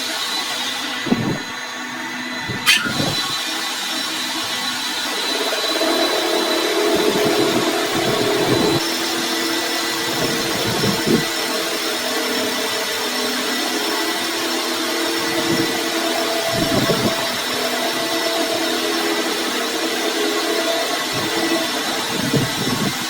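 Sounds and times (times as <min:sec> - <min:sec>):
workshop machinery drone: 0:00.0 - 0:23.0.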